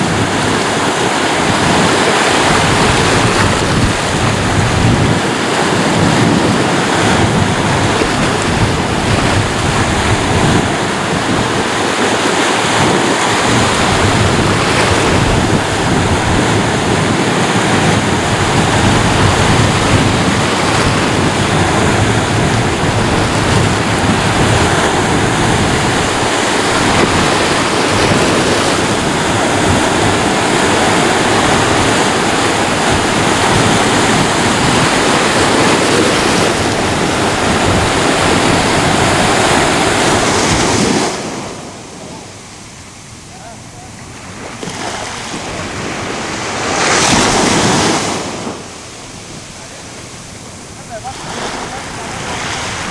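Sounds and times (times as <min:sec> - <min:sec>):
ocean waves breaking on shore: 0:00.0 - 0:52.9
wind rumble on microphone: 0:00.0 - 0:52.9.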